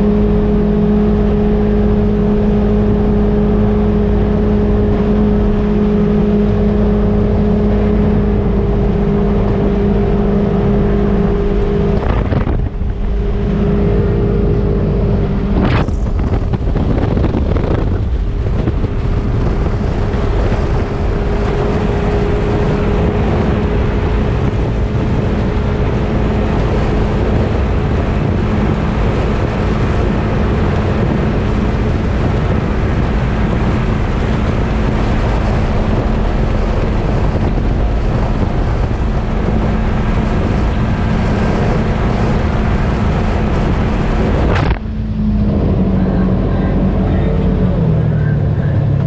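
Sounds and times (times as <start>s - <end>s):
wind rushing: 0.0s - 48.0s
engine running steadily: 0.0s - 49.0s.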